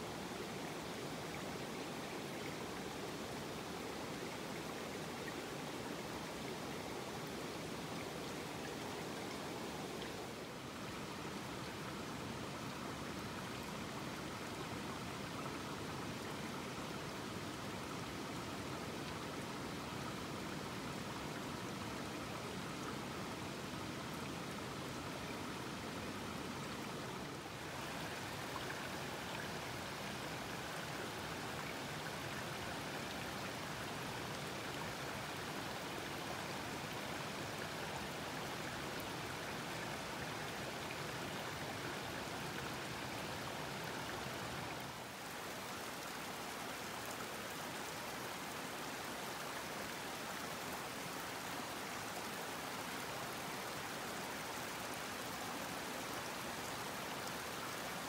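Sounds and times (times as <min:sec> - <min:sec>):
flowing river water: 0:00.0 - 0:58.0.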